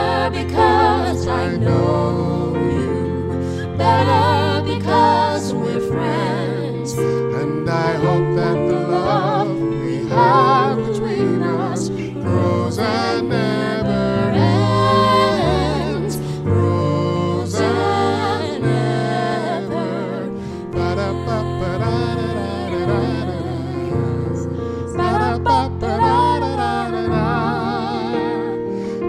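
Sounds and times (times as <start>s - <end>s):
sustained instrumental accompaniment: 0.0s - 29.0s
women and man singing in harmony: 0.0s - 29.0s.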